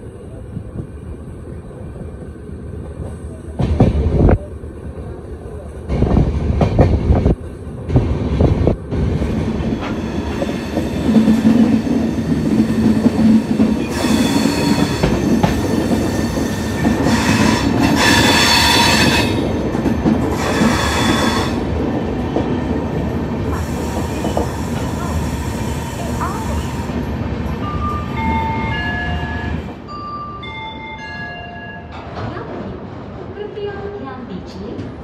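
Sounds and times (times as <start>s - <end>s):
train wheel rumble: 0.0s - 29.9s.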